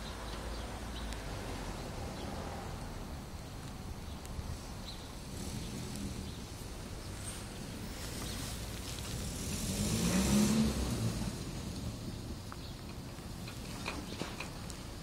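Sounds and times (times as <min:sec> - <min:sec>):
car driving past: 0:00.0 - 0:03.3, 0:04.5 - 0:14.5.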